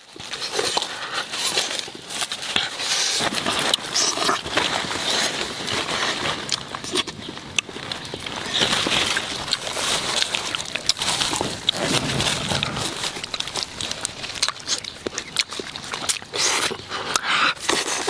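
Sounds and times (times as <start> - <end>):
leaves rustling and crackling: 0.0 - 18.0.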